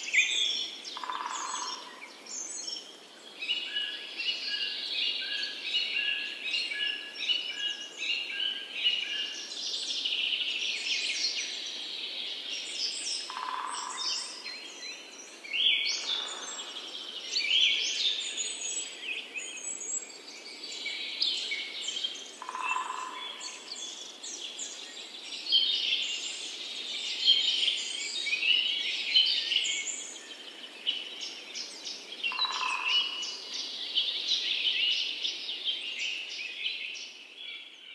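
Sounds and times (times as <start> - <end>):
chorus of birds chirping: 0.0 - 37.9.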